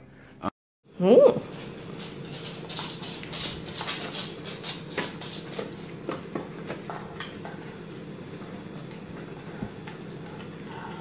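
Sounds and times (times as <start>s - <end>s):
dog chewing watermelon: 1.9s - 11.0s.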